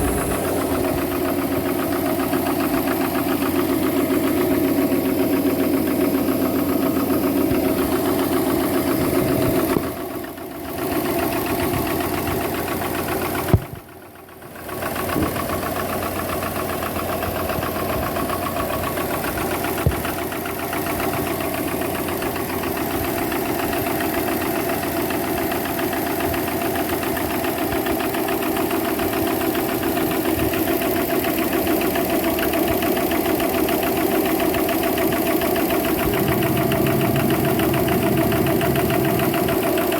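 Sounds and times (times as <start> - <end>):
engine knocking: 0.0 - 39.9.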